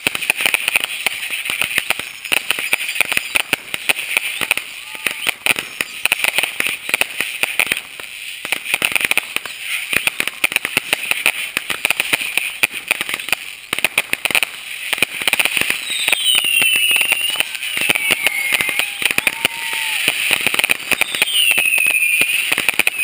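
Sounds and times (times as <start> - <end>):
fireworks bangs and pops: 0.0 - 23.0
fireworks crackling: 0.0 - 23.0.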